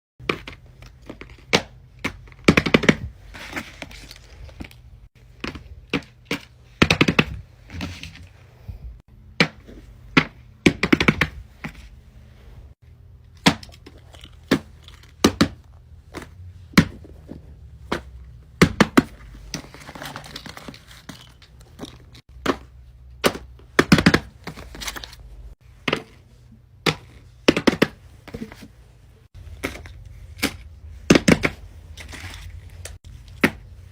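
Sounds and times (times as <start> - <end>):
rustling and crinkling: 0.2 - 9.0, 13.4 - 22.3, 23.5 - 33.9.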